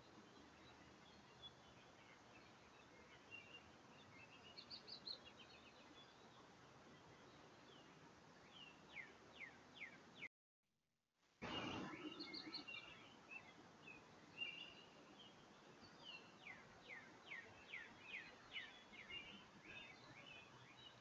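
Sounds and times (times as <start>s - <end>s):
birds chirping: 0.0s - 10.3s, 11.4s - 21.0s.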